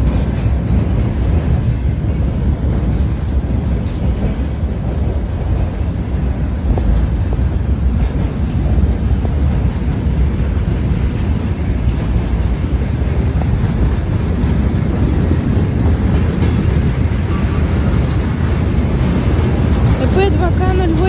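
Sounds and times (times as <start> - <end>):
locomotive rumble: 0.0 - 21.0
wind noise on microphone: 0.0 - 21.0.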